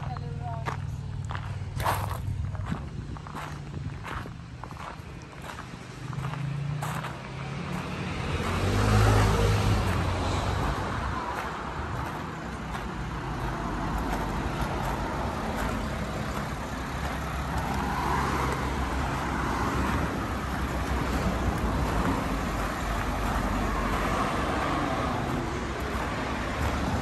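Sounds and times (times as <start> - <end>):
traffic noise: 0.0 - 27.0
car passing close: 0.6 - 27.0.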